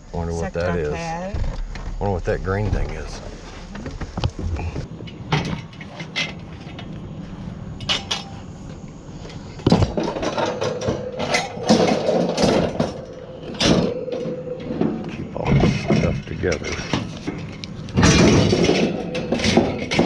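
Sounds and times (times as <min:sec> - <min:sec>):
steady hum: 0:00.0 - 0:20.0
junk knocking and rattling: 0:01.3 - 0:07.2, 0:09.6 - 0:20.0.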